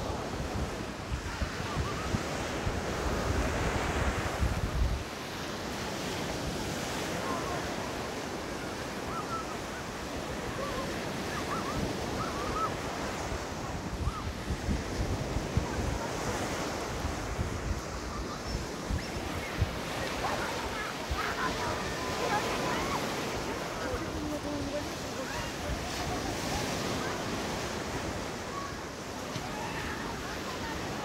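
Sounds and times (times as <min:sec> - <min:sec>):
surf breaking on shore: 0:00.0 - 0:31.0
wind rumbling on microphone: 0:00.0 - 0:31.0.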